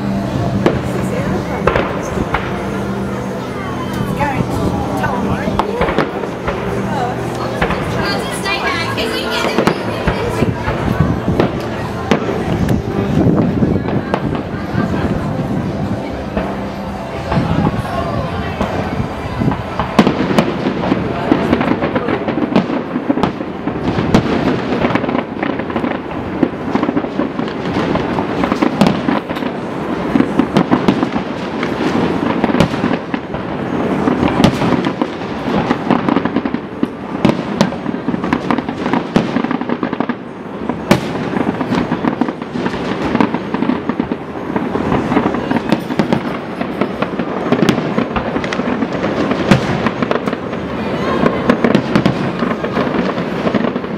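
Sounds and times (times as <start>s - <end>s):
fireworks bursting: 0.0s - 53.9s.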